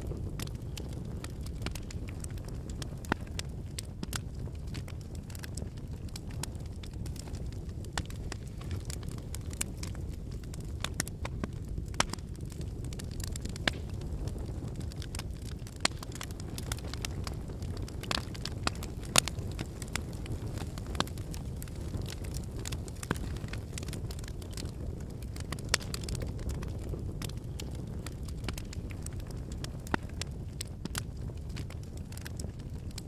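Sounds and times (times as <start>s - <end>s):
bonfire flames rushing: 0.0s - 33.0s
firewood crackling and popping: 0.0s - 33.0s.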